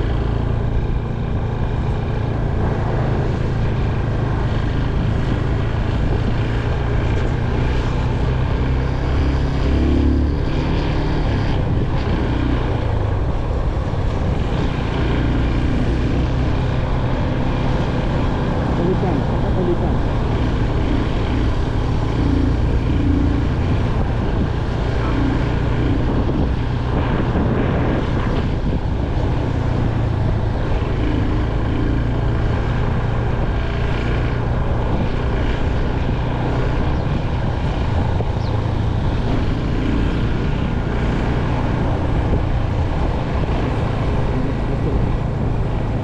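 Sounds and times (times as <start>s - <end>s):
motorcycle engine cruising: 0.0s - 46.0s
wind rush: 0.0s - 46.0s.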